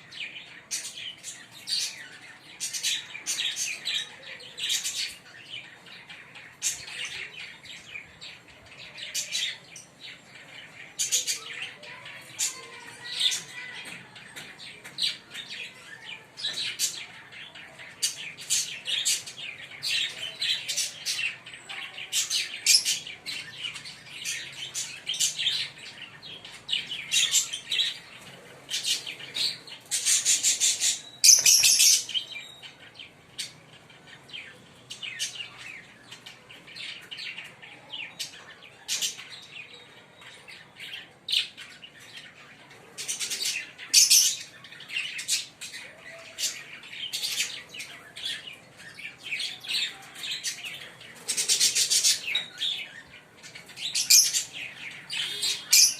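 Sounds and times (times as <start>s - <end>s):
lovebirds chirping: 0.0s - 55.9s.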